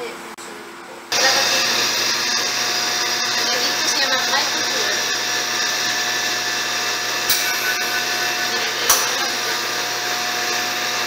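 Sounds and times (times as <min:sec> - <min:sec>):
fans and climate unit running: 0:00.0 - 0:11.0.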